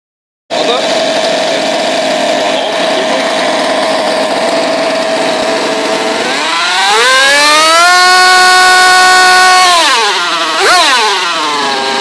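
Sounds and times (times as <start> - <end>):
model engine revving: 0.5 - 12.0.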